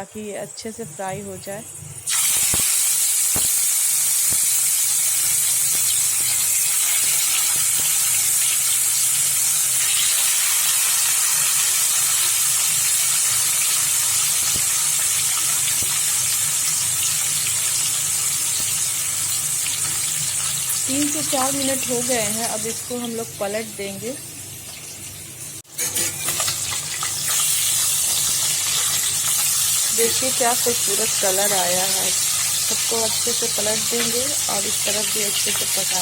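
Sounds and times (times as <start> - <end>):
fish sizzling in hot oil: 0.2 - 36.0.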